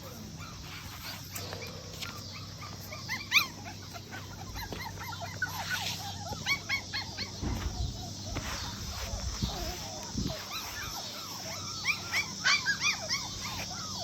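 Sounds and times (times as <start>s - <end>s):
puppies whining and yipping: 0.0s - 14.0s
puppy yelp: 0.0s - 14.0s.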